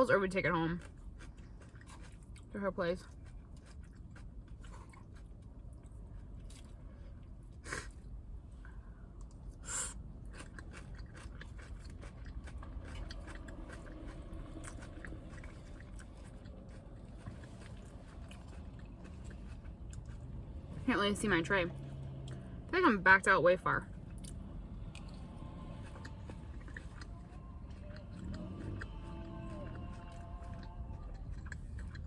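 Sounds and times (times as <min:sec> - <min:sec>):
person chewing salad: 0:00.4 - 0:20.8, 0:23.9 - 0:32.0.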